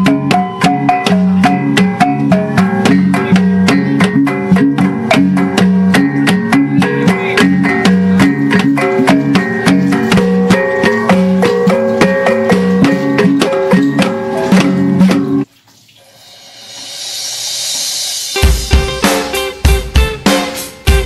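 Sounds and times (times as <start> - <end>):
plucked string notes: 0.0 - 15.5, 18.4 - 21.0
quick percussive beat: 0.0 - 15.5, 16.6 - 21.0.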